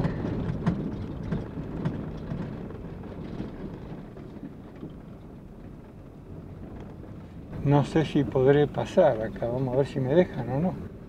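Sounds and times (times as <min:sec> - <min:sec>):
van rumbling over rough road: 0:00.0 - 0:11.0.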